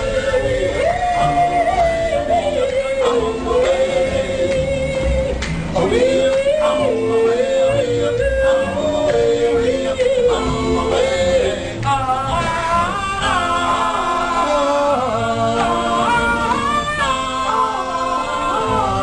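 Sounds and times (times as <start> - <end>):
men singing in harmony: 0.0 - 19.0.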